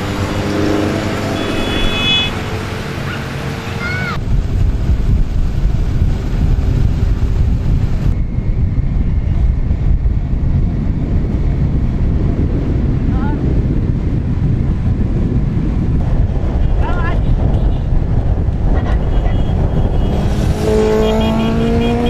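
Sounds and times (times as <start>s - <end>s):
motorcycle engines running: 0.0s - 22.0s
wind buffeting on microphone: 0.0s - 22.0s.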